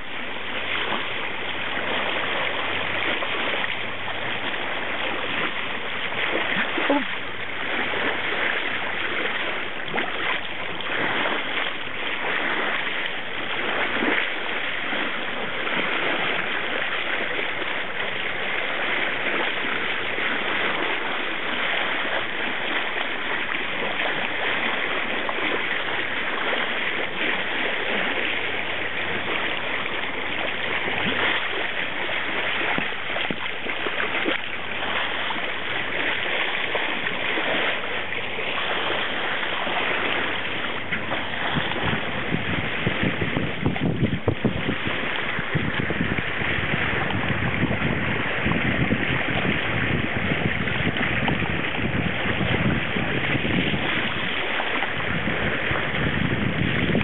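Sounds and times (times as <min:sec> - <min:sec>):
low engine hum: 0:00.0 - 0:55.3
brief splashes: 0:00.0 - 0:57.0
water rushing along boat bow: 0:00.0 - 0:57.0.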